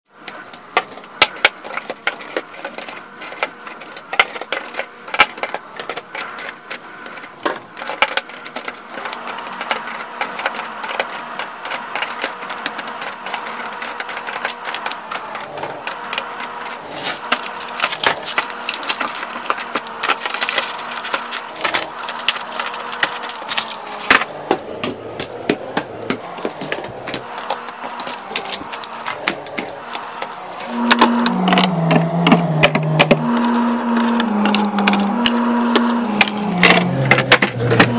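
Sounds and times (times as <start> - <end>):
steady hum: 0.1 - 37.9
eggs and plastic clicking: 0.2 - 37.9.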